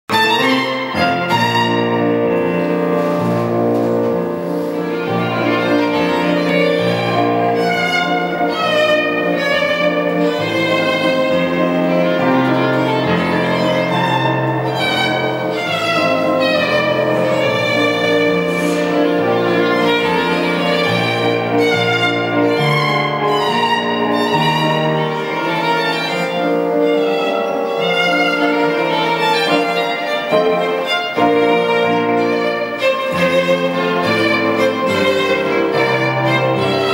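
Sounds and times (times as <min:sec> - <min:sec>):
violin melody with vibrato: 0:00.1 - 0:36.9.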